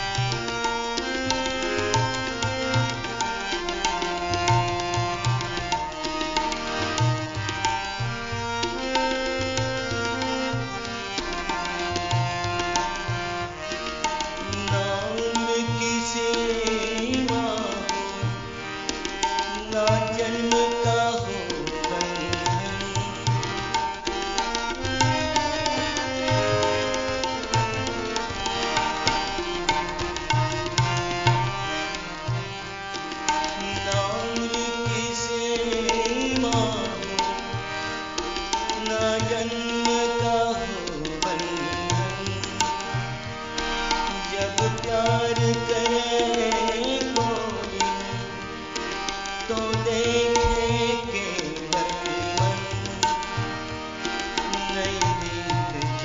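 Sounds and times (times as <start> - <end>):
harmonium chords and melody: 0.0 - 56.0
tabla rhythm: 0.0 - 56.0.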